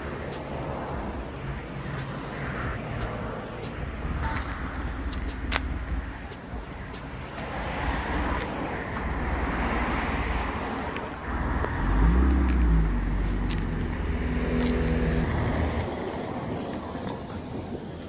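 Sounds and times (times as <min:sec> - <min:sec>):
car engine revving: 0:00.0 - 0:16.2
street traffic: 0:00.0 - 0:18.0.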